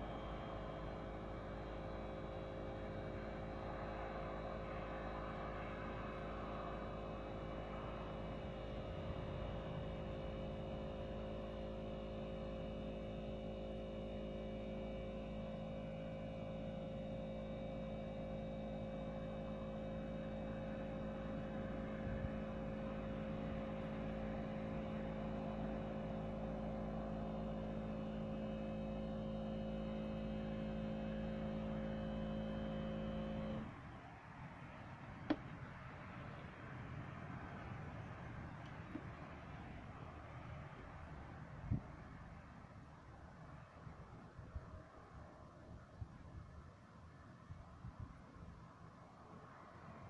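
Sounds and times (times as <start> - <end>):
steady machine hum: 0.0 - 50.0.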